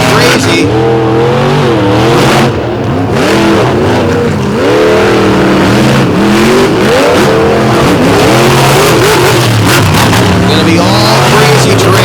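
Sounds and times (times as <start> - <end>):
monster truck engines revving: 0.0 - 12.0.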